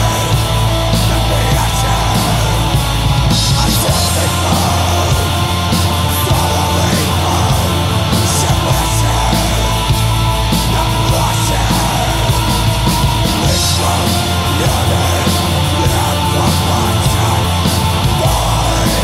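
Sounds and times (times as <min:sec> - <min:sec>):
black metal music: 0:00.0 - 0:19.0.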